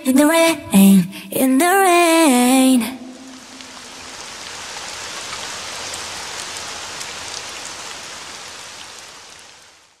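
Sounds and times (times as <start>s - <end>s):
steady rain falling: 1.8s - 10.0s.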